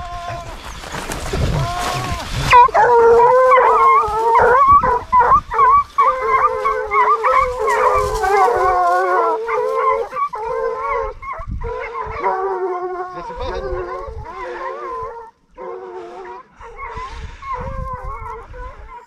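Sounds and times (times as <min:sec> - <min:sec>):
hounds baying: 0:00.0 - 0:19.0.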